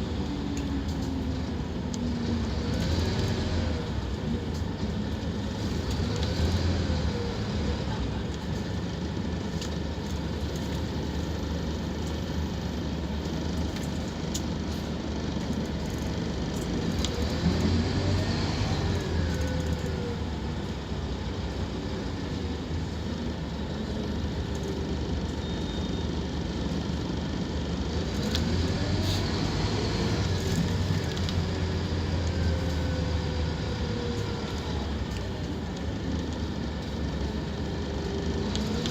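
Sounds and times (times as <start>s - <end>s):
bus diesel engine accelerating: 0.0s - 38.9s.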